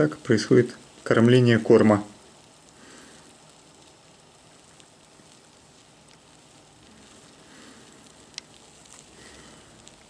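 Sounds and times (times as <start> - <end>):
larvae rustling in wood shavings: 0.0 - 10.0.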